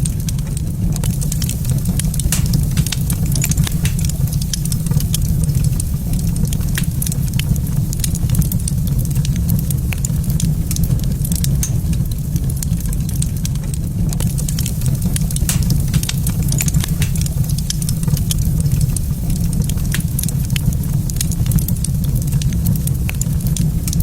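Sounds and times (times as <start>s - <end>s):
low rumble: 0.0s - 24.0s
wood fire crackling: 0.0s - 24.0s.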